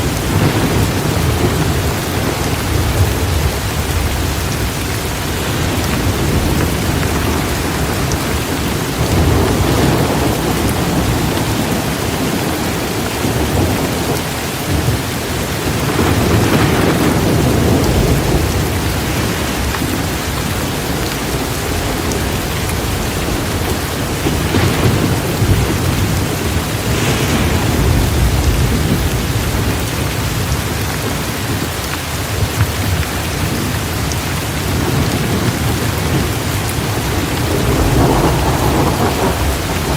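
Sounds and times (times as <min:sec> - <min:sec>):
rolling thunder: 0:00.0 - 0:39.9
torrential rain: 0:00.0 - 0:39.9.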